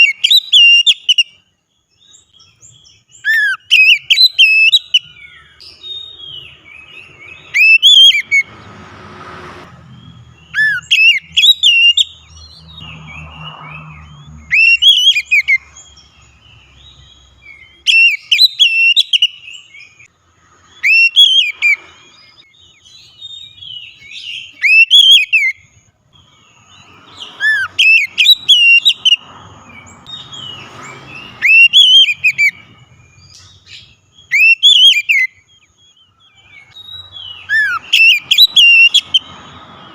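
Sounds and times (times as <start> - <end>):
bird singing whistled phrases: 0.0 - 1.4, 2.0 - 8.4, 10.1 - 16.0, 17.0 - 20.1, 20.8 - 25.7, 26.7 - 29.2, 31.2 - 39.4.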